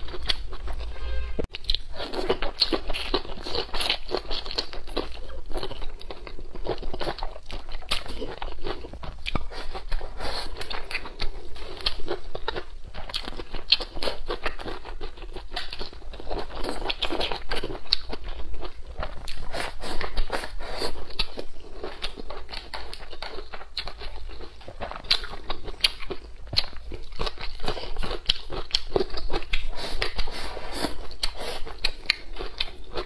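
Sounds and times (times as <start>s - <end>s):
person chewing and crunching food: 0.0s - 33.0s.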